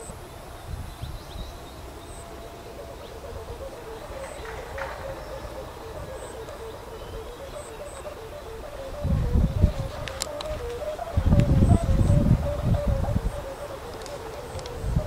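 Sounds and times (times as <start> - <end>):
kite hummer droning: 0.0 - 15.0
wind rumble on microphone: 0.0 - 15.0.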